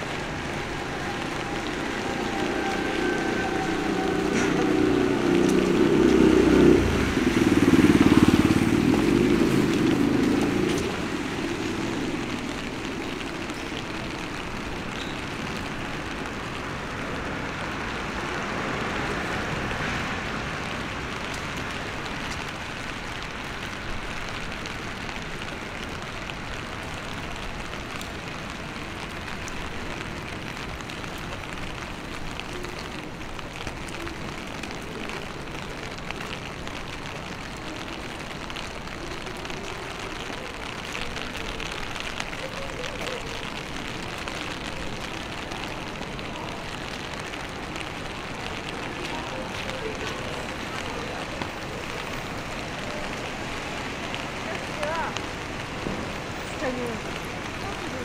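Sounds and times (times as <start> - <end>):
steady rain: 0.0 - 58.0
traffic hiss on wet street: 0.0 - 58.0.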